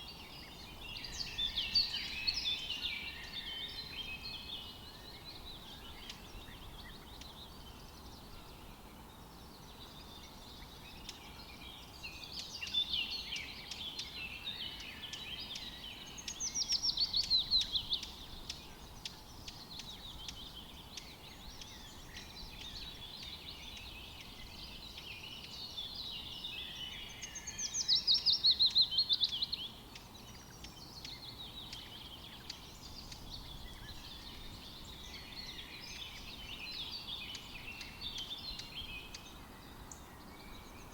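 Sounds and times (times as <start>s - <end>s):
faint steady hiss: 0.0s - 40.9s
songbirds singing: 0.0s - 40.9s.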